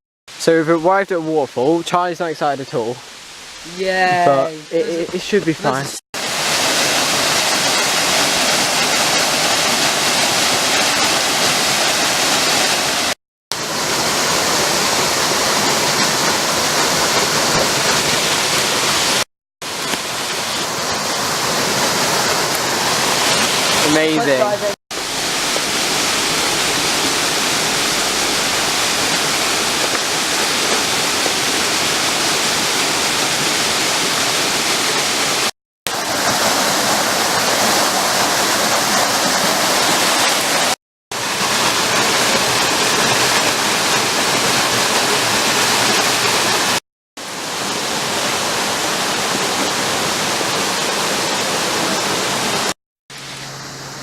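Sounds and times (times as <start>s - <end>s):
waterfall rushing: 0.5s - 54.0s.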